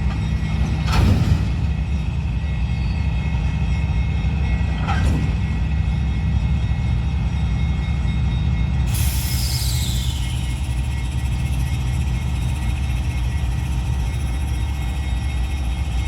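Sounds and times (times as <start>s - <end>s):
freight train low rumble: 0.0s - 16.0s.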